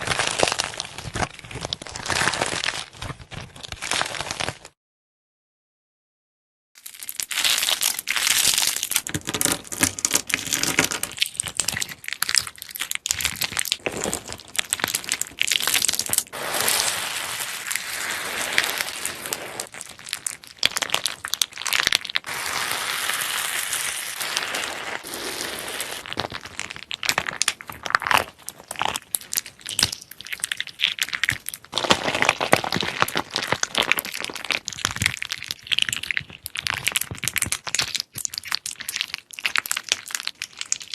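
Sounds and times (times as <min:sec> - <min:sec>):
slime crackling and popping: 0:00.0 - 0:04.7, 0:06.8 - 0:40.9.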